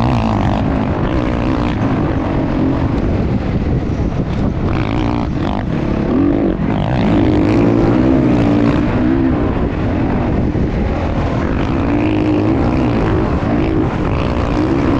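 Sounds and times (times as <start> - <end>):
dirt bike engine revving: 0.0 - 14.9.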